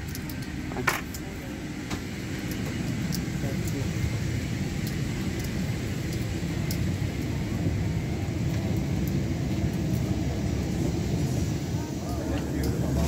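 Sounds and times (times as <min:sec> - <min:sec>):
aircraft cabin air system hum: 0:00.0 - 0:13.0.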